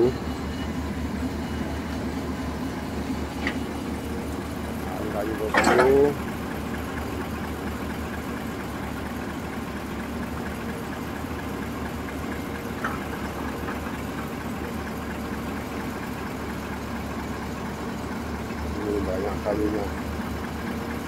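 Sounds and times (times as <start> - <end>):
diesel engine running low revs: 0.0 - 21.0.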